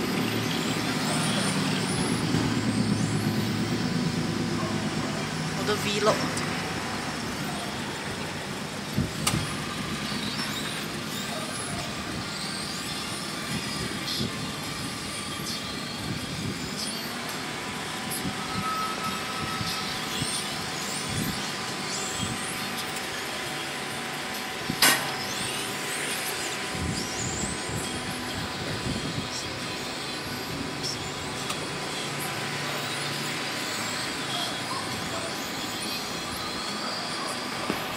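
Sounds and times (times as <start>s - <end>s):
rc car motors whining: 0.0s - 37.9s
steady rushing background noise: 0.0s - 37.9s.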